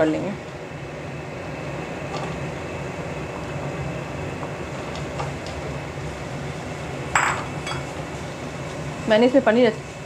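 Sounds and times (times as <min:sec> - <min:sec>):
kitchen hum: 0:00.0 - 0:10.0.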